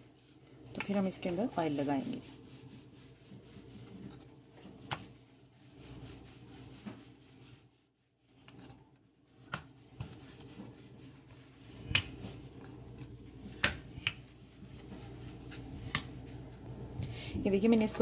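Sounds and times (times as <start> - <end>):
rolling pin rubbing dough: 0.0 - 17.0.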